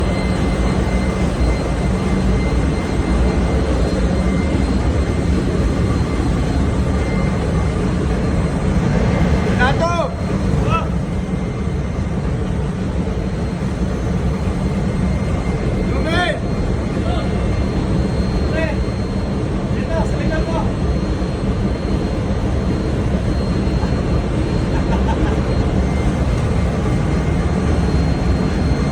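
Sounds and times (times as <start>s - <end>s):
faint high whine: 0.0s - 28.9s
ship machinery roaring: 0.0s - 28.9s.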